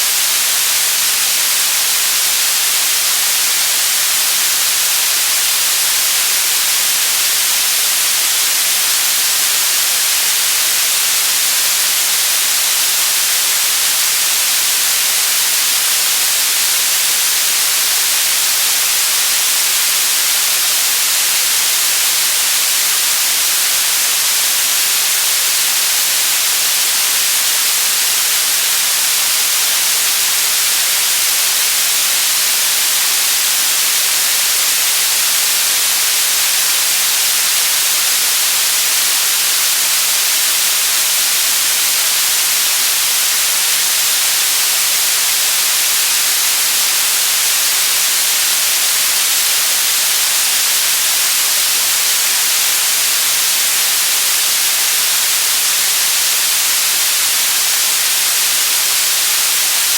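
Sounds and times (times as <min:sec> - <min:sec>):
loud white noise hiss: 0:00.0 - 0:59.9.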